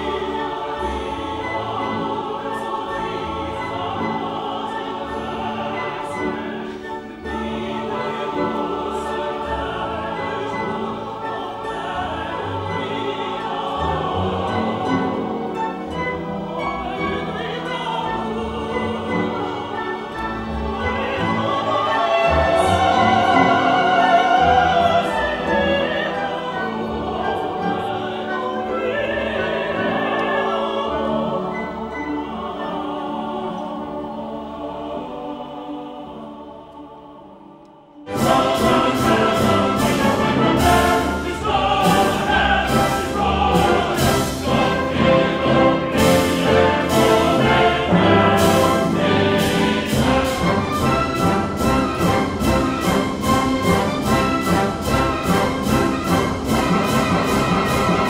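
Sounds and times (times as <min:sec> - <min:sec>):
opera voices and chorus singing: 0:00.0 - 0:58.0
orchestral music with brass: 0:00.0 - 0:58.0.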